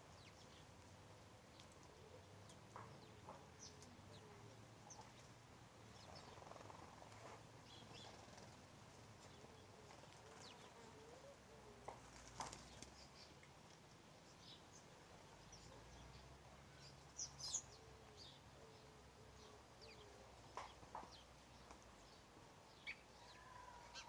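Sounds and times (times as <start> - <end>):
faint birdsong: 0.0 - 24.0.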